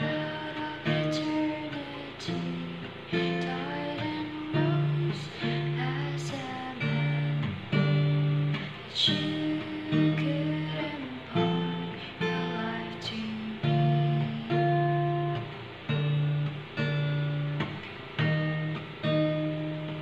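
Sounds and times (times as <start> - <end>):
acoustic guitar chords ringing: 0.0 - 20.0.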